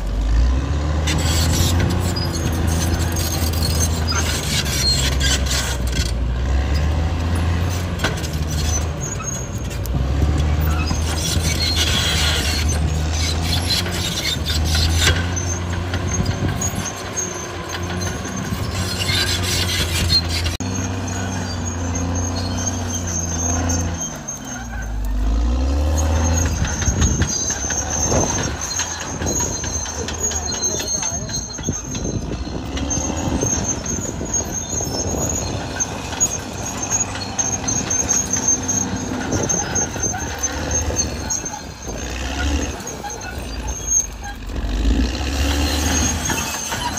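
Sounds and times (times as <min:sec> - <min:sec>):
bulldozer diesel engine running: 0:00.0 - 0:46.9
steel tracks squealing: 0:00.0 - 0:46.9.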